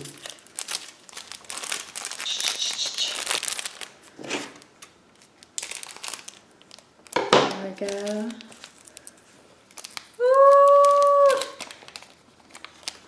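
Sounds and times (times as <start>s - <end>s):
packet crinkling: 0.0s - 13.0s.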